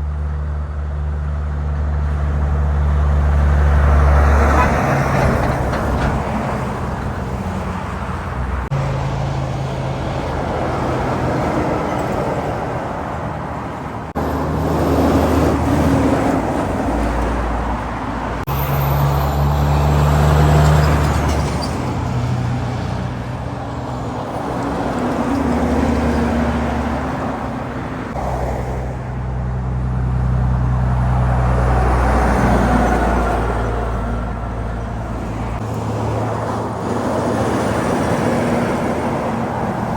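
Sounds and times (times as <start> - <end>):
highway traffic passing: 0.0 - 39.9.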